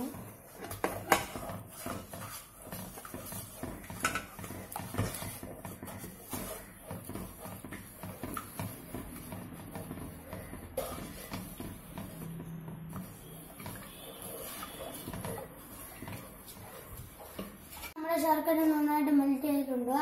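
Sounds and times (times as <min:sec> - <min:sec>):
wooden spatula scraping a pan: 0:00.0 - 0:18.9.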